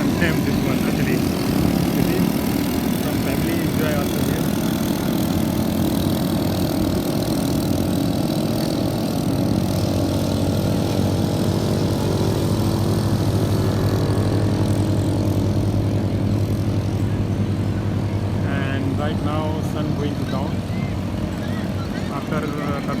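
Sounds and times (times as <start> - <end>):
small motorbike engine running: 0.0 - 23.0
steady noisy hiss: 0.0 - 23.0.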